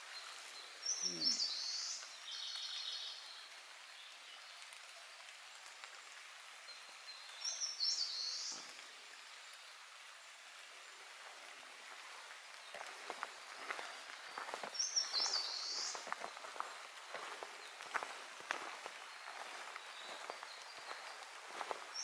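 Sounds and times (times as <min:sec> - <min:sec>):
songbird singing: 0:00.0 - 0:05.9, 0:06.6 - 0:09.8, 0:11.3 - 0:22.0
faint woodland hiss: 0:00.0 - 0:22.0.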